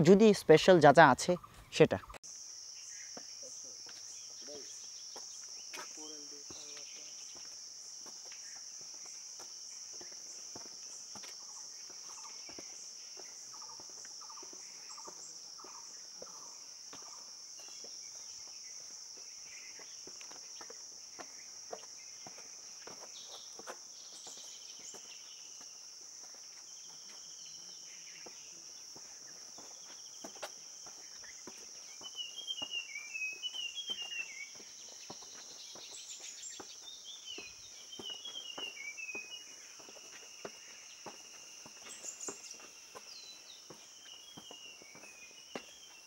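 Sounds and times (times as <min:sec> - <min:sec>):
bird chirping: 0:00.0 - 0:07.6, 0:08.4 - 0:46.0
high-pitched insect drone: 0:02.3 - 0:46.0.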